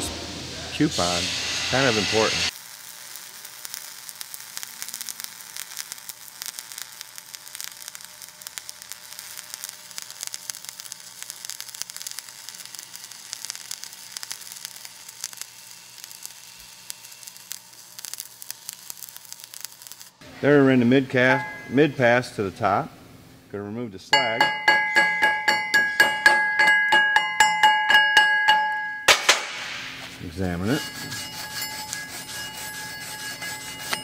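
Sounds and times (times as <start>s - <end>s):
welding arc crackling and sizzling: 0.0s - 22.8s, 29.1s - 34.0s.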